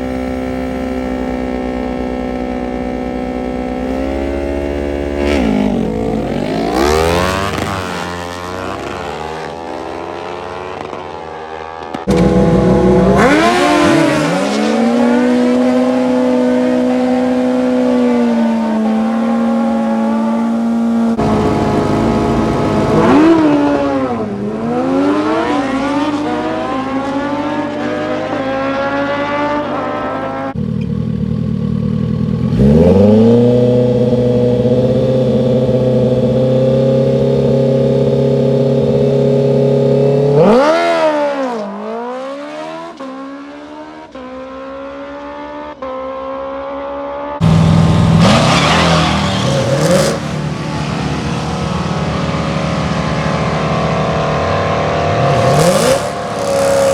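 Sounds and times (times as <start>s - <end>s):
racing engines at high revs: 0.0s - 56.9s.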